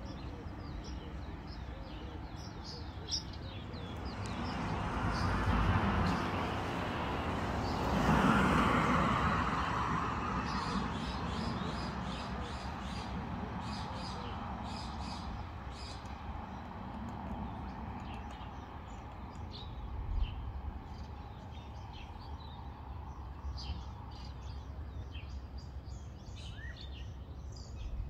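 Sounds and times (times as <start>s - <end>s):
small birds chirping: 0.0s - 7.8s, 10.4s - 28.0s.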